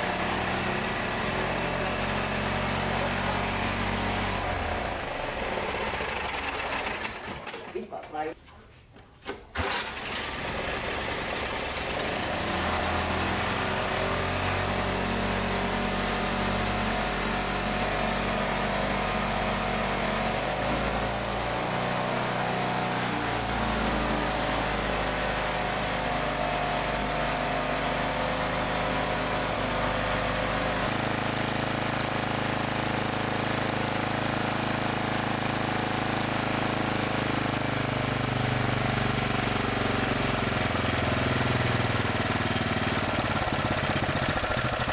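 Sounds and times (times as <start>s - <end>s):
small gasoline engine running: 0.0s - 7.8s, 9.5s - 44.9s.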